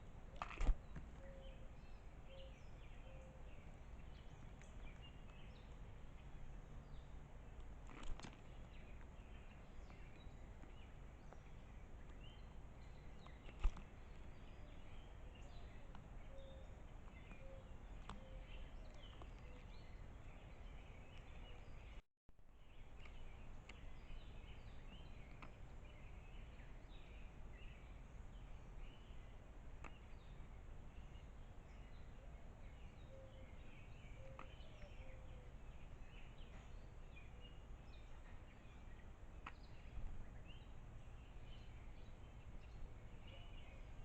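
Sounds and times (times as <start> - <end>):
distant bird chirps: 0.0 - 22.0, 22.6 - 44.0.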